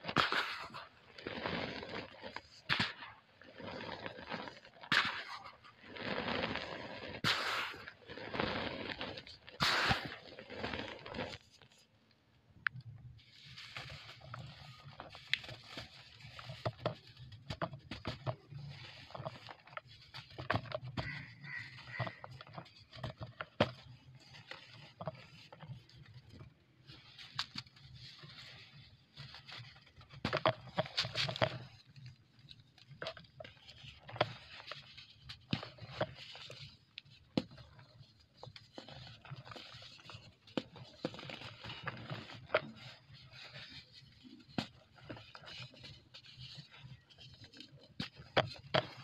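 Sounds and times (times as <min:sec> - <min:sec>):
cement block crunching and crackling: 0:00.0 - 0:49.0.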